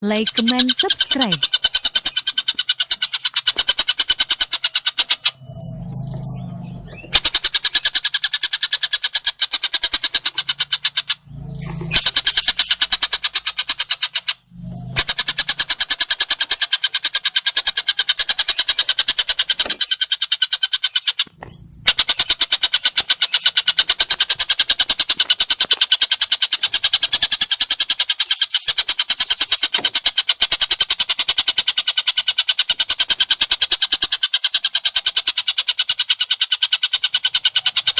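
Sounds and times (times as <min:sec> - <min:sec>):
songbird chattering high notes: 0:00.0 - 0:37.9.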